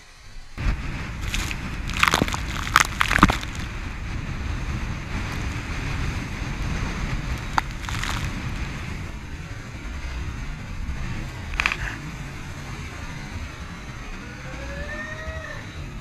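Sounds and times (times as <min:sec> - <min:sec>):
wind buffeting microphone: 0:00.6 - 0:13.4.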